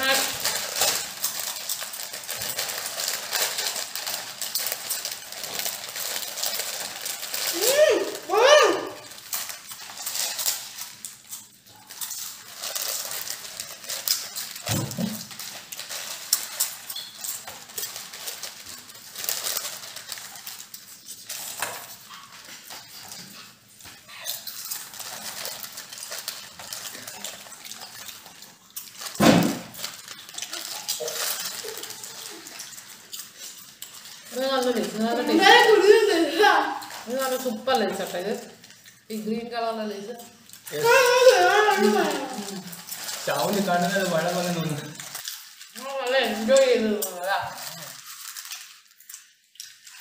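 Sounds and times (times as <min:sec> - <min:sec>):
chips crunched and chewed: 0:00.0 - 0:39.2, 0:40.1 - 0:50.0
plastic chip packets crinkling: 0:00.0 - 0:50.0.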